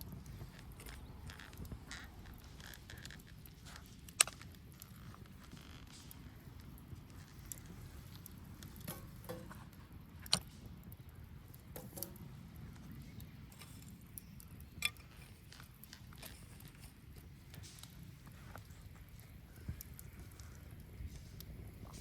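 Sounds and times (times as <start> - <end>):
bonfire crackling and popping: 0.0 - 22.0.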